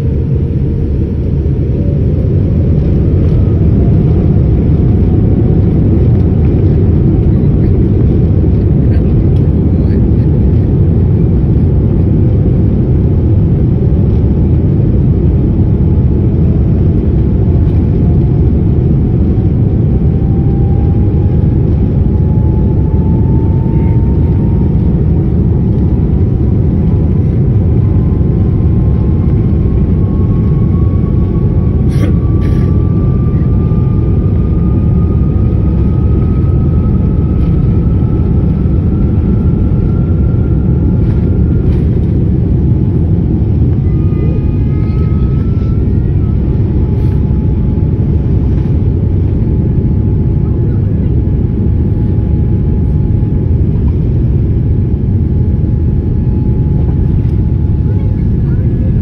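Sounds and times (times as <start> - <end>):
jet engines roaring and whining: 0.0 - 59.0.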